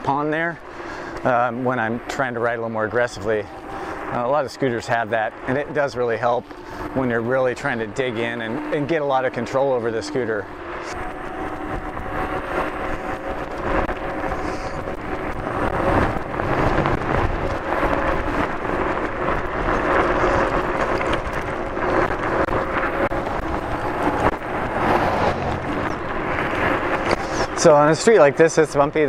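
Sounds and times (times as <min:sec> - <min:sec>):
electric motor hum: 0:00.0 - 0:29.0
scooter rattling from road vibration: 0:00.0 - 0:29.0
tyres rumbling over rough asphalt: 0:00.0 - 0:29.0
wind buffeting microphone: 0:00.0 - 0:29.0.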